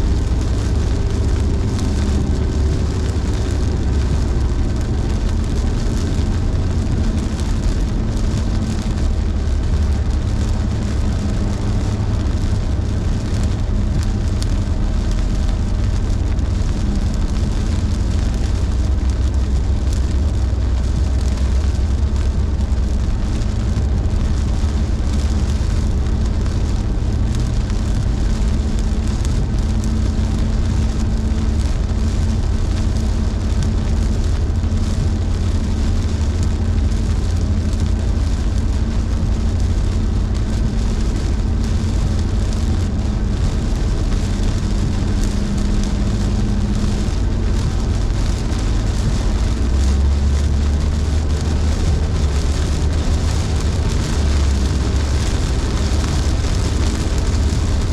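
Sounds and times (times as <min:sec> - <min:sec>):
car road and engine drone: 0:00.0 - 0:57.9
tyres hissing on wet road: 0:00.0 - 0:57.9.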